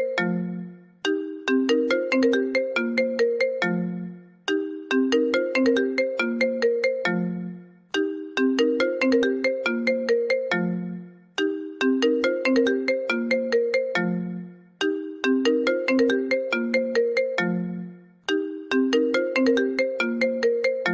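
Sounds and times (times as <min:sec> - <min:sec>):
phone ringtone melody: 0:00.0 - 0:20.9.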